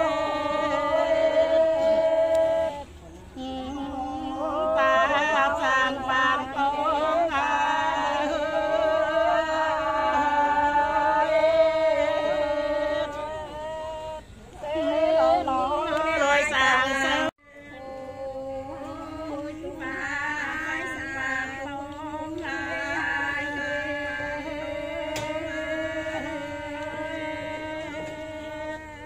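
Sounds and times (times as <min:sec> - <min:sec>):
voices singing chant-like song: 0:00.0 - 0:29.0.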